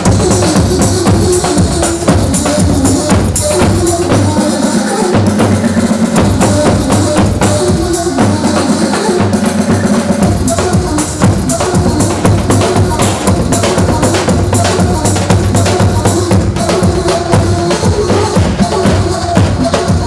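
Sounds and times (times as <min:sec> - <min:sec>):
driving percussion beat: 0:00.0 - 0:20.0
loud wedding dance music: 0:00.0 - 0:20.0.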